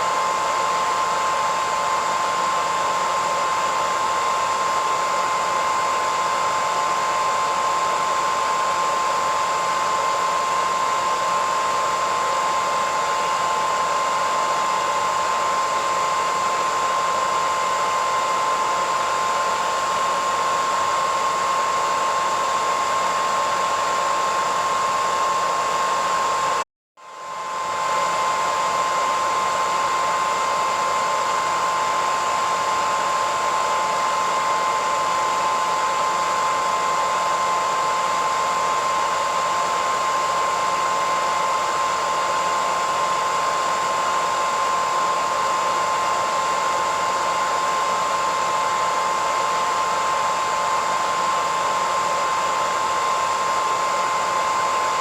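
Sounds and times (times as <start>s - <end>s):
hairdryer running: 0.0s - 55.0s.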